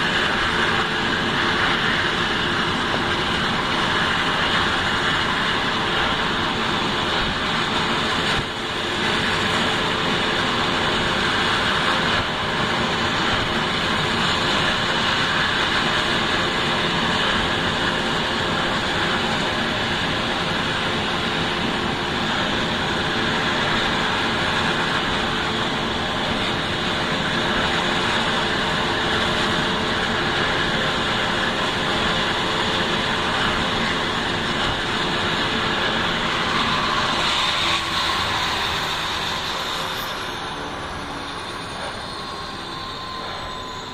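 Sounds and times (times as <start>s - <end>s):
helicopter turbine engine whining: 0.0s - 43.9s.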